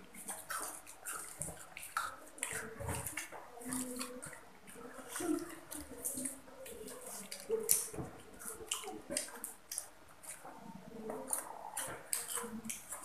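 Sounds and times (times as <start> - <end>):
children crunching and chewing: 0.0 - 13.0.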